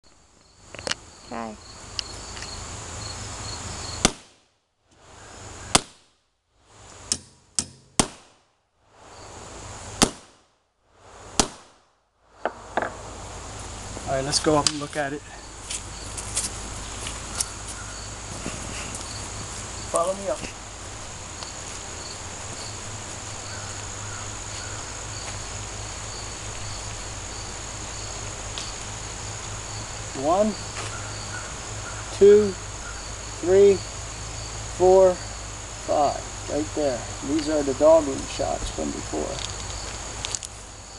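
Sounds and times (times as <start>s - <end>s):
insects trilling: 0.0s - 4.2s, 5.0s - 5.9s, 8.9s - 10.2s, 12.3s - 40.9s.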